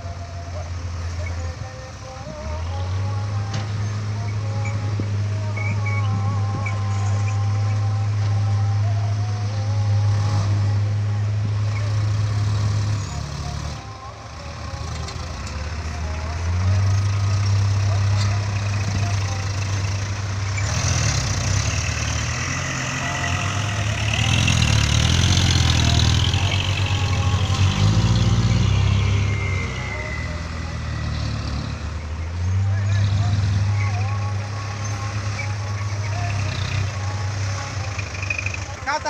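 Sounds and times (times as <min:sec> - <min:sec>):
dump truck diesel engine revving: 0:00.0 - 0:39.0.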